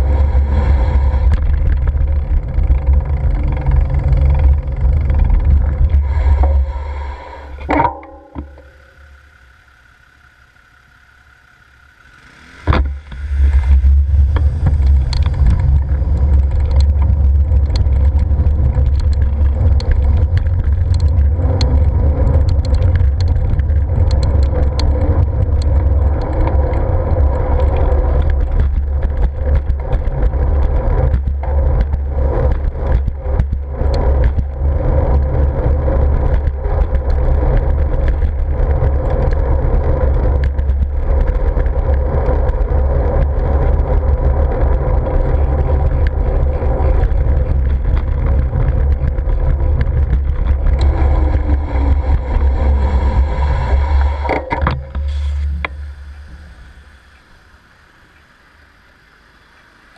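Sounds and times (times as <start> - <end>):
bike rattling: 0.0 - 59.9
wind and road rumble: 0.0 - 59.9.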